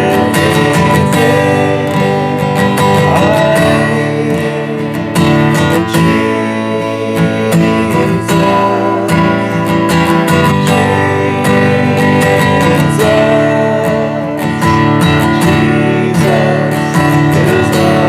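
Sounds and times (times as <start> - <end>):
strummed acoustic guitar chords: 0.0 - 18.0.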